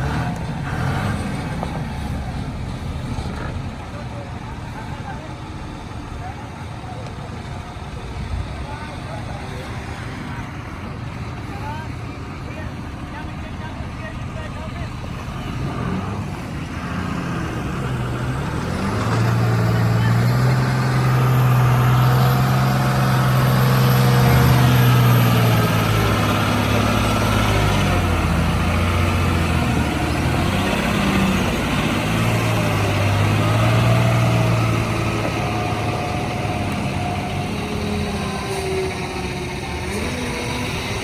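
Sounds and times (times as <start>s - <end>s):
truck diesel engine under load: 0.0s - 41.0s.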